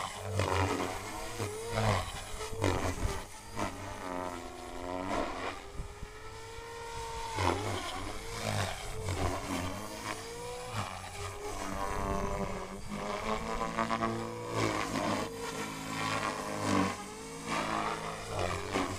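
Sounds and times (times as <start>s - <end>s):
rc helicopter motor whine: 0.0s - 18.9s
rotor blades whooshing: 0.0s - 18.9s.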